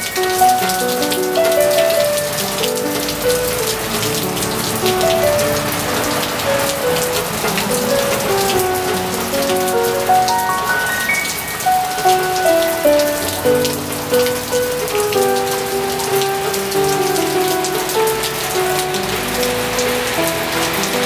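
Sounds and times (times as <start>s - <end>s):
gentle piano music: 0.0s - 21.0s
rain falling: 0.0s - 21.0s.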